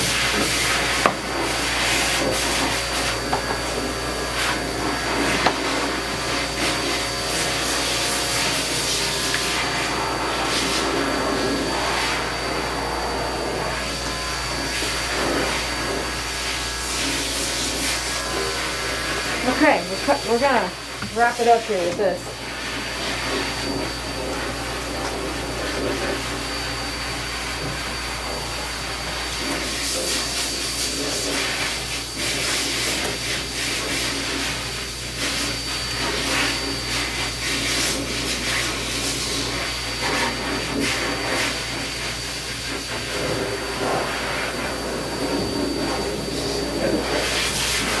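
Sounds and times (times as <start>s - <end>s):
pet dryer blowing air: 0.0s - 48.0s.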